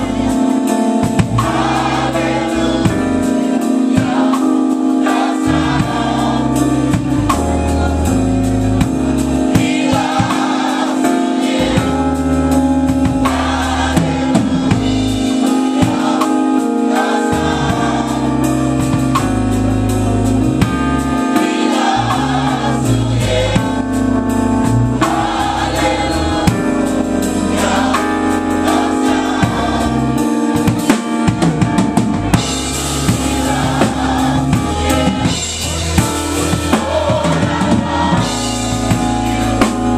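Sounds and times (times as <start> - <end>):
choir singing: 0.0 - 31.4, 32.4 - 39.9
live band playing: 0.0 - 39.9.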